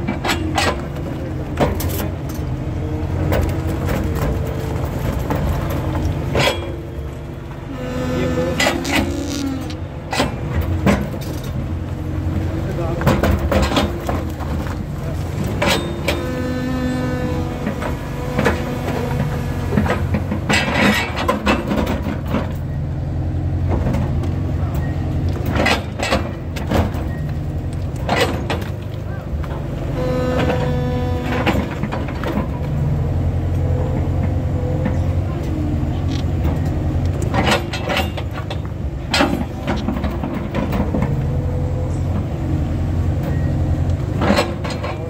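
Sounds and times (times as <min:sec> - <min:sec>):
hydraulic whine: 0:00.0 - 0:23.6, 0:29.3 - 0:45.0
excavator diesel engine under load: 0:00.0 - 0:45.0.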